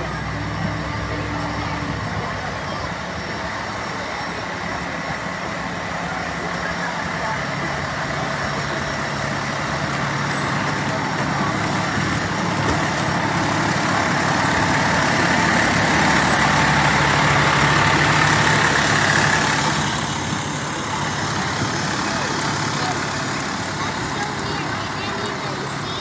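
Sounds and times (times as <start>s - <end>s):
fire engine diesel engine running: 0.0s - 26.0s.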